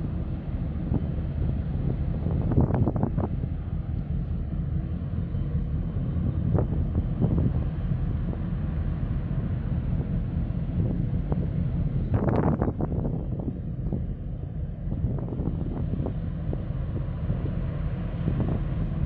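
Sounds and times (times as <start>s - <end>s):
ship engines rumbling: 0.0s - 19.0s.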